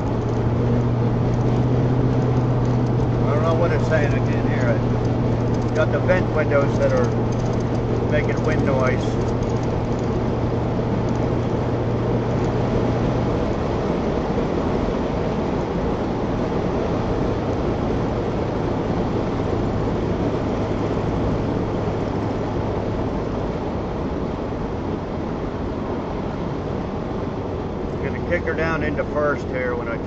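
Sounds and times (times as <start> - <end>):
car engine hum: 0.0 - 30.0.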